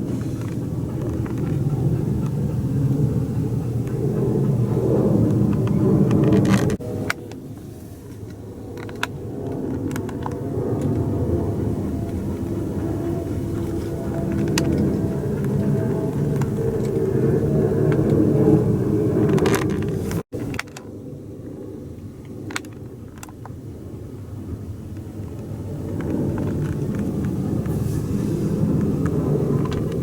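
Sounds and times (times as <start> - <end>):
aircraft engine noise: 0.0 - 30.0.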